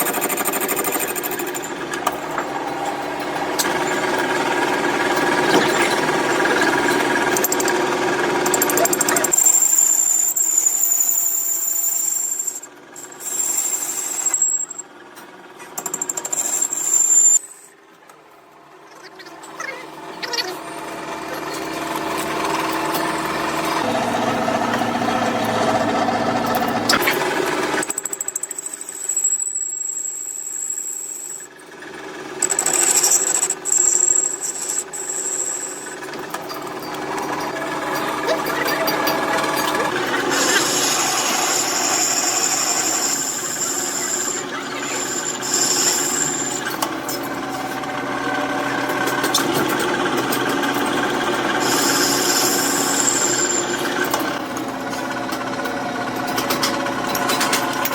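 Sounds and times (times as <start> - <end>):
machine high-pitched squeal: 0.0 - 18.0, 18.7 - 57.9
low machine noise: 0.0 - 57.9.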